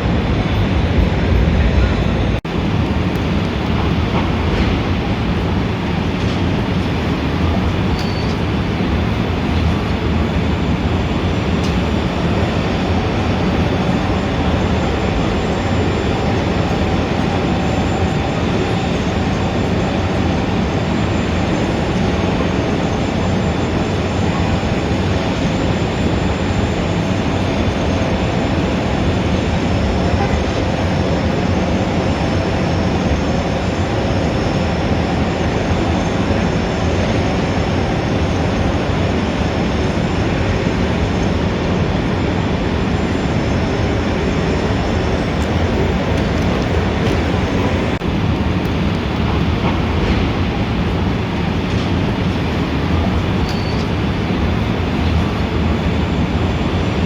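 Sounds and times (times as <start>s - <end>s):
city rumble: 0.0s - 57.0s.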